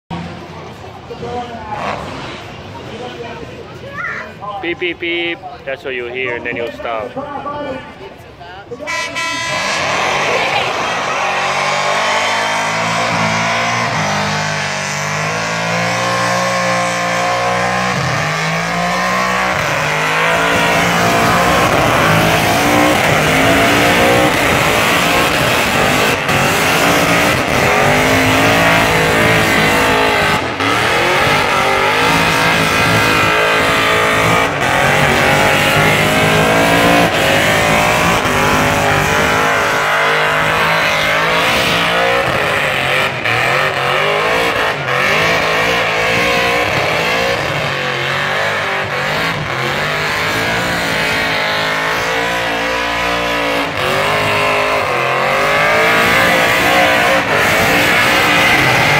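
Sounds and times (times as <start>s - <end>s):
car engine revving hard: 8.9s - 58.9s.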